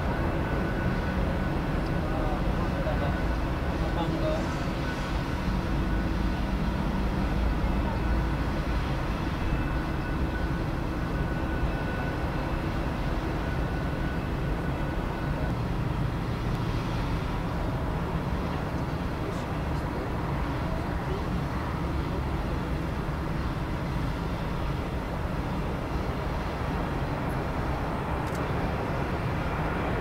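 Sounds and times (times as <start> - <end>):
faint high whine: 0.0 - 30.0
jet engines rumbling: 0.0 - 30.0.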